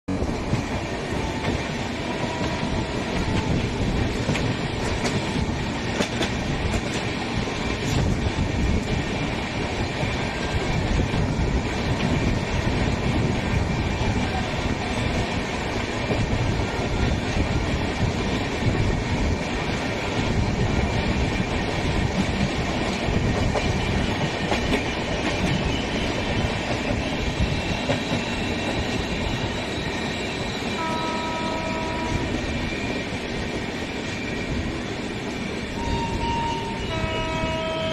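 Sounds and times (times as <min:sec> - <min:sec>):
train wheels clattering on rails: 0:00.1 - 0:37.9.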